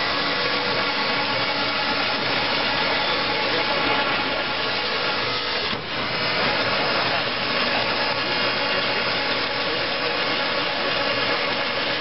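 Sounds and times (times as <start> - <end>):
fence making machine running: 0.0 - 12.0.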